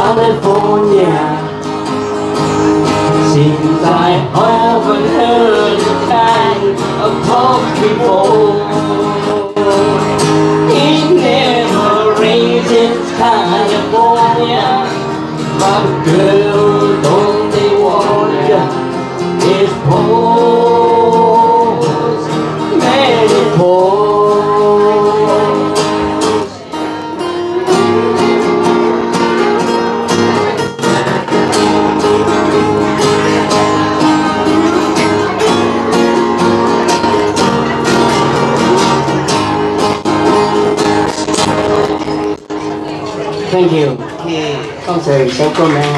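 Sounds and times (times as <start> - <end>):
live band playing soft rock: 0.0 - 44.9
acoustic guitar: 0.0 - 45.9.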